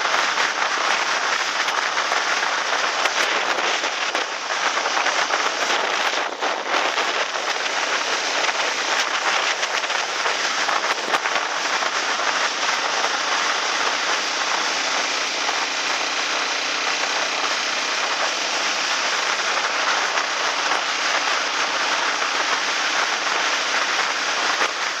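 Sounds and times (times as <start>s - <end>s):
flooded river rushing: 0.0s - 25.0s.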